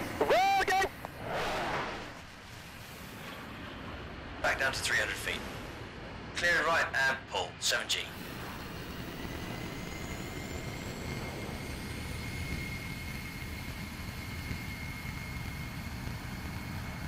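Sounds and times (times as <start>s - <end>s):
jet engine and airflow rumble: 0.0s - 17.0s
steady high whine: 0.0s - 17.0s.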